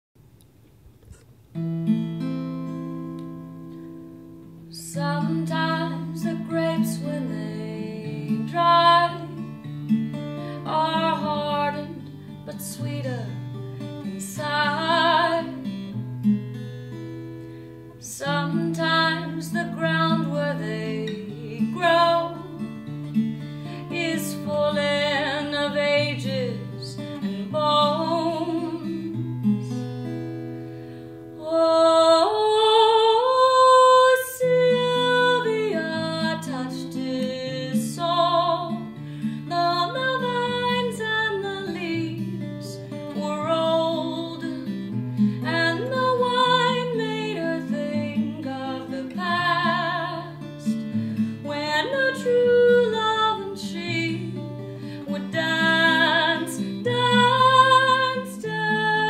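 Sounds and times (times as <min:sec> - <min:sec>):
acoustic guitar: 0:00.2 - 0:59.0
woman singing slow song: 0:04.4 - 0:16.0, 0:17.9 - 0:30.0, 0:31.2 - 0:59.0.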